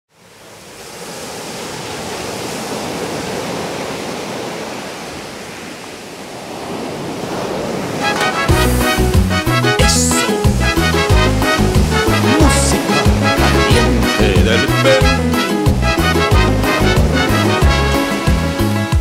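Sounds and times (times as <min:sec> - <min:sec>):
waves breaking on a beach: 0:00.1 - 0:19.0.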